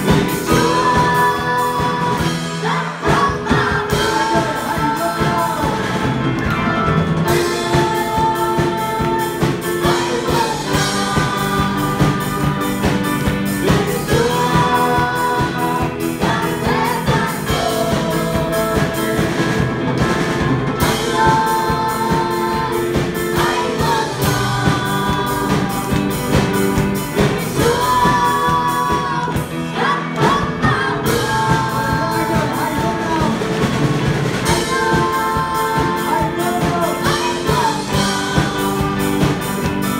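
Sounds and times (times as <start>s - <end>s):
woman and man singing hymn: 0.0s - 6.2s, 7.2s - 19.6s, 20.8s - 39.9s
drum kit: 0.0s - 39.9s
electric guitar: 0.0s - 39.9s.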